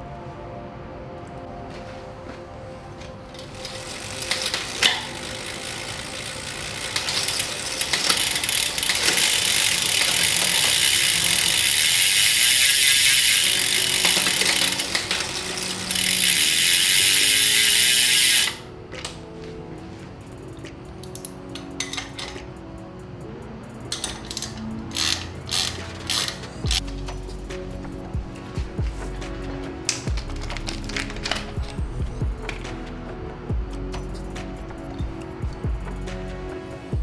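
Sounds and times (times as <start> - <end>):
soft background music: 0.0 - 37.0
bike chain whirring: 3.3 - 18.7, 20.2 - 37.0.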